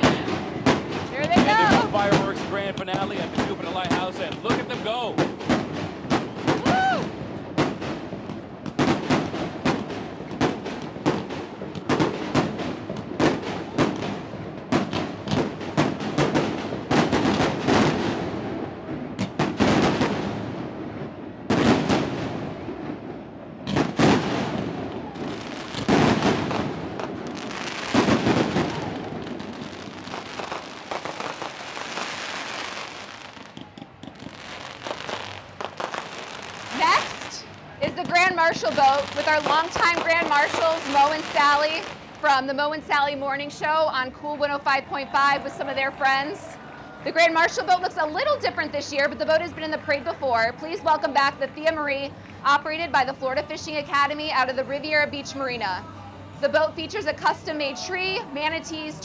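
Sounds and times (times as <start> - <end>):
fireworks crackling: 0.0 - 55.8.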